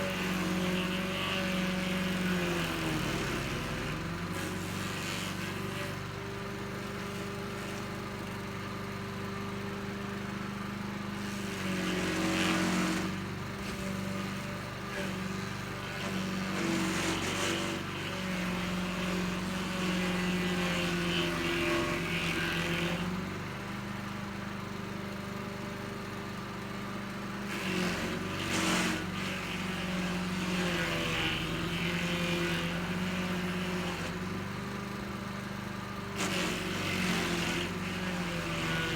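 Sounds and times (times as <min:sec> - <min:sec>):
cutter wheel grinding stump: 0:00.0 - 0:25.3, 0:26.3 - 0:38.9
stump grinder engine running: 0:00.0 - 0:38.9.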